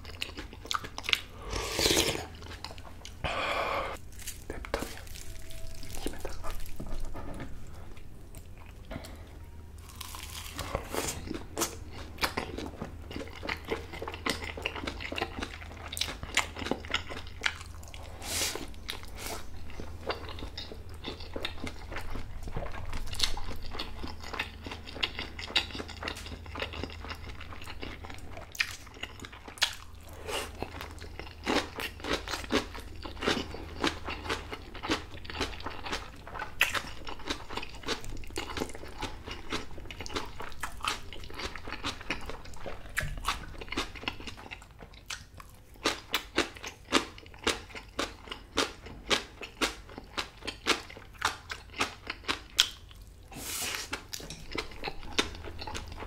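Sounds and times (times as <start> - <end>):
person chewing wetly: 0.0 - 3.4, 4.0 - 56.0
food crunching: 3.9 - 56.0.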